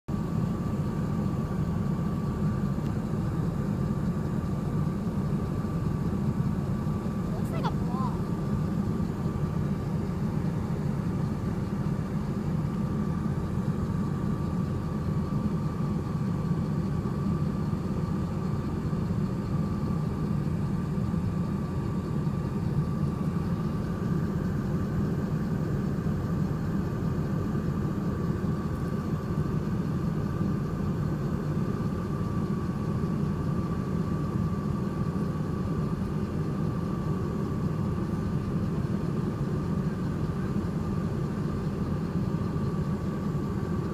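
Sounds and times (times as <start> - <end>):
thin steady whine: 0.1 - 43.9.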